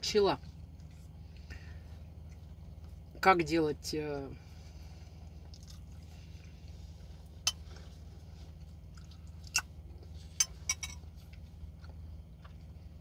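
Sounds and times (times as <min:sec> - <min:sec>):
steady low hum: 0:00.0 - 0:13.0
person chewing a sandwich: 0:00.4 - 0:03.1, 0:04.4 - 0:13.0.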